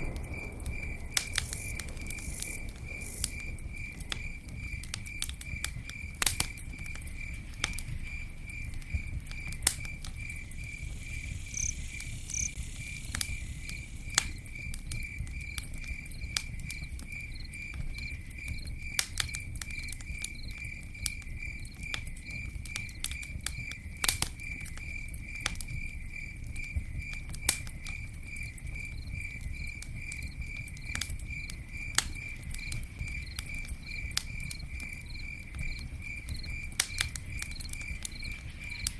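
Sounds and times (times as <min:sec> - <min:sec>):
campfire crackling and popping: 0:00.0 - 0:38.9
cricket chirping: 0:00.0 - 0:38.9.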